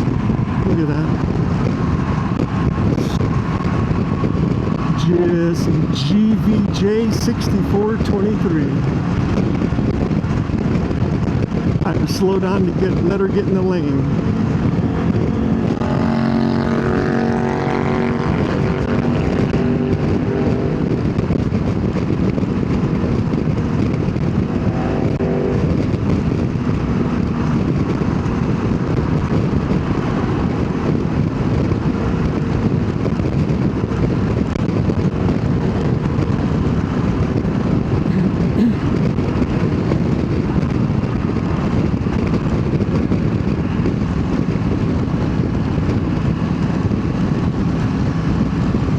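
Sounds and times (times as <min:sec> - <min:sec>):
motorcycle engine accelerating: 0:00.0 - 0:48.9
wind rush on helmet: 0:00.0 - 0:48.9.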